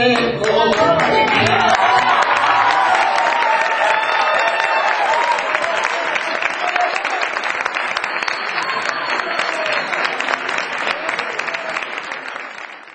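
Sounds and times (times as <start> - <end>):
audience applauding: 0.4 - 12.9.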